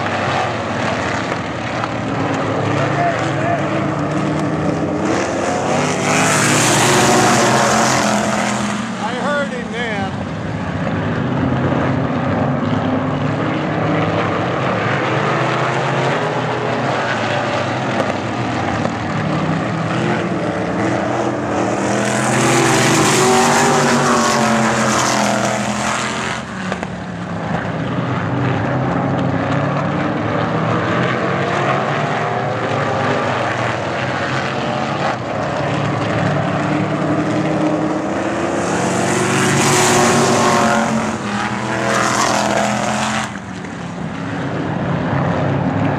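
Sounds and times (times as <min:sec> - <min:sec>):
race car engines: 0:00.0 - 0:45.9.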